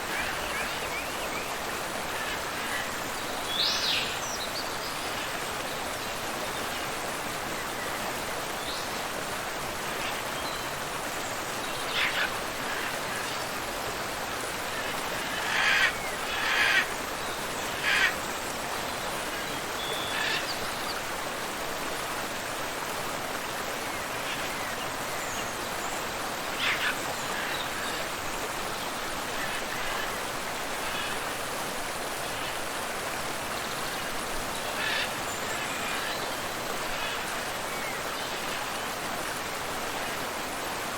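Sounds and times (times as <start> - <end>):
waterfall and river rushing: 0.0 - 40.9.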